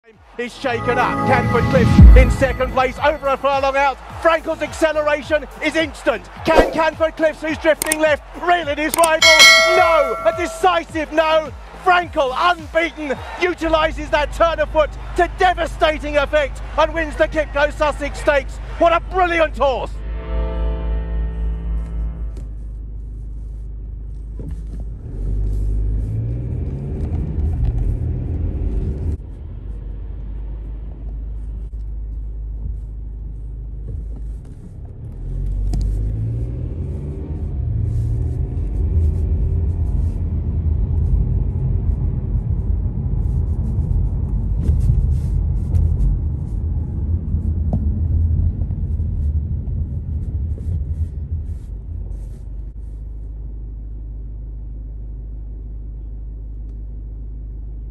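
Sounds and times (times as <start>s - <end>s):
car engine and road noise: 0.1s - 19.9s, 21.0s - 57.9s.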